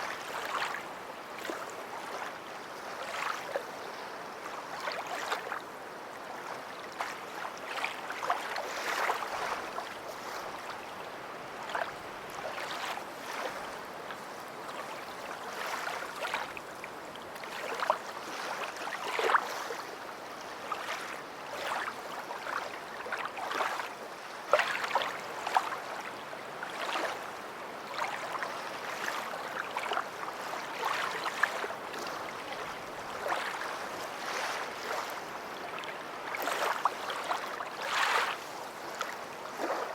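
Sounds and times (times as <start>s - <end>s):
water splashes: 0.0s - 3.7s, 6.3s - 10.8s, 11.5s - 16.8s, 17.4s - 20.0s, 20.6s - 39.9s
small waves lapping: 0.0s - 39.9s.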